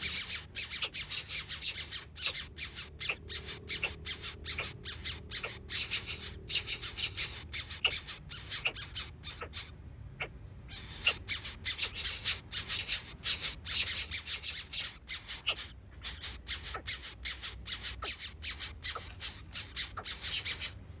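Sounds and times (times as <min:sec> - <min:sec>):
birds harsh rasping calls: 0:00.0 - 0:21.0.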